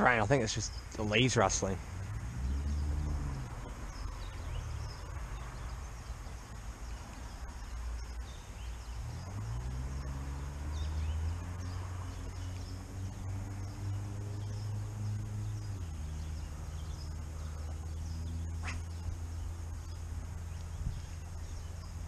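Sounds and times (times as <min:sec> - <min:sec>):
low droning rumble: 0:00.0 - 0:22.0
faint bird chirps: 0:02.4 - 0:22.0.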